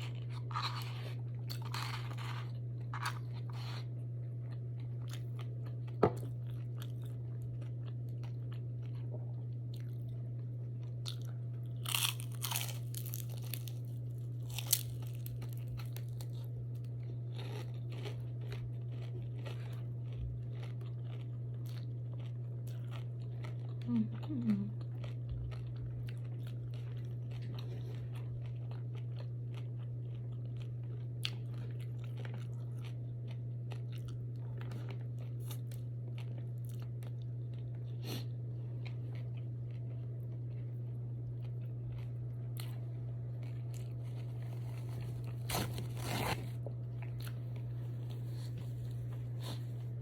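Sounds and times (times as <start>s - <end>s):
person chewing crunchy food: 0.0s - 49.9s
steady low hum: 0.0s - 50.0s.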